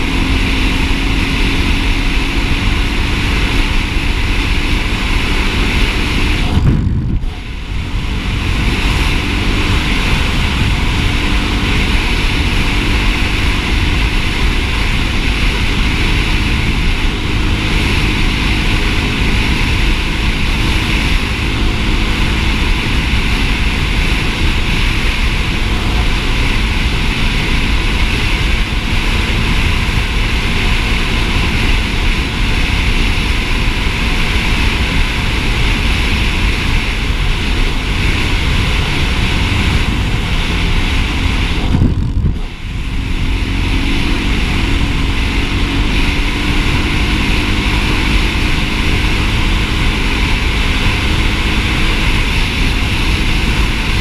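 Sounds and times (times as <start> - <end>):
dirt bike engine running: 0.0 - 54.0
heavy wind rumble: 0.0 - 54.0.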